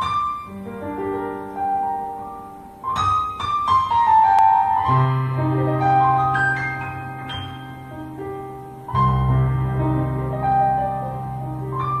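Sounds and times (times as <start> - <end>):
slow piano notes: 0.0 - 12.0.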